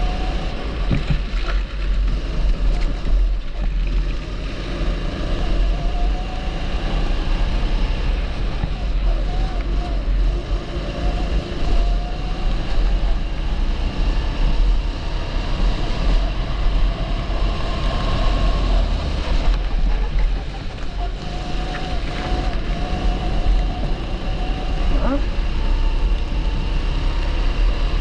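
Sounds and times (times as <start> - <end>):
kart engine running: 0.0 - 28.0.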